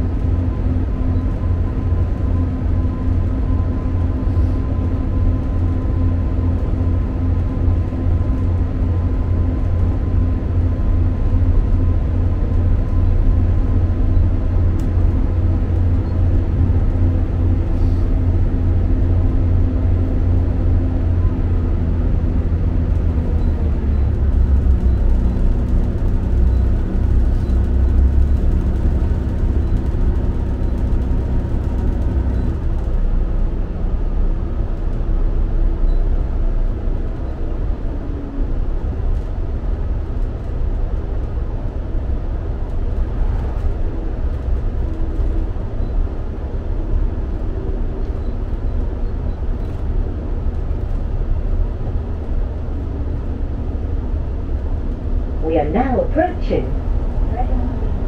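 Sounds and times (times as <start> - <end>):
low engine drone: 0.0 - 58.0
wheels rushing on rails: 0.0 - 58.0.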